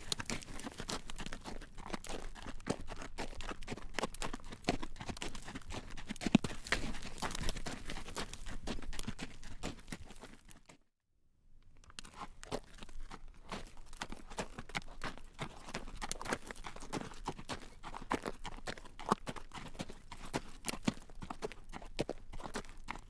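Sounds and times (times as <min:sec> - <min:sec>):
horse hooves clip-clopping on road: 0:00.0 - 0:10.8, 0:12.0 - 0:23.0.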